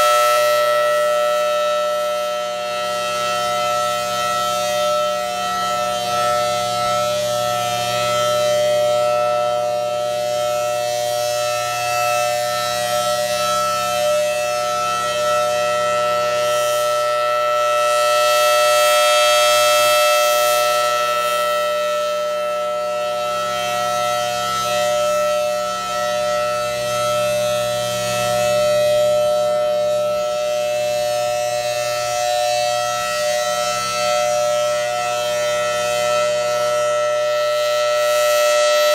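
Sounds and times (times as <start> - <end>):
rotating warning siren two-tone note: 0.0 - 38.9.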